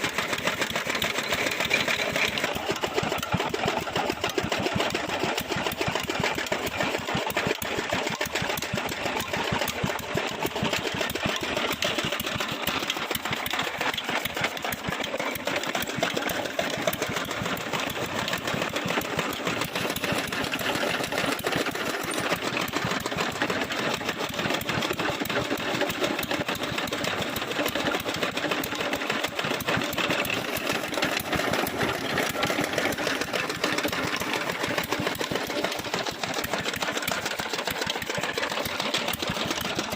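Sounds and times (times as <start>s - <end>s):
stationary engine chugging: 0.0s - 39.9s.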